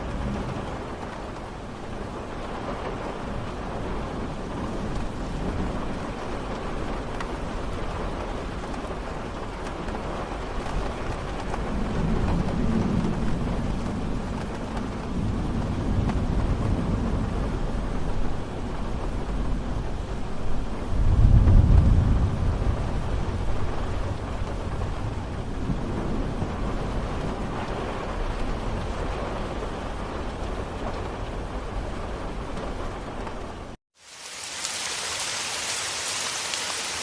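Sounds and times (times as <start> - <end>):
thunder rumbling: 0.0 - 33.8
steady rain falling: 0.0 - 37.0.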